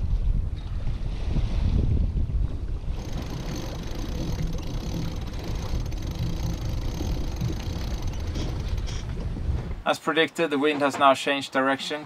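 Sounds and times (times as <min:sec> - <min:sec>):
wind on microphone: 0:00.0 - 0:09.8
water along boat hull: 0:00.0 - 0:12.0.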